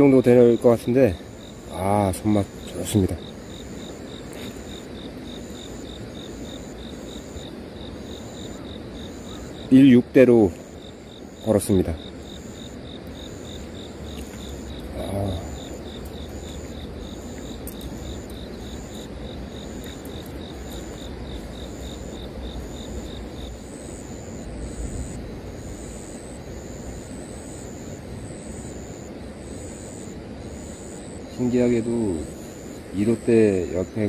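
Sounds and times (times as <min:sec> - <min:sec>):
fast insect chirping: 0:00.0 - 0:34.0
slower higher insect chirping: 0:00.0 - 0:34.0.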